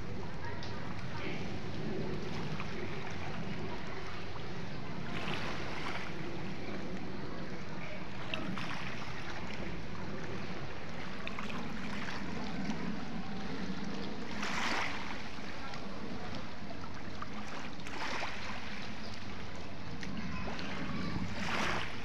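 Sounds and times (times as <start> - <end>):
waves lapping at rocky shore: 0.0 - 22.0.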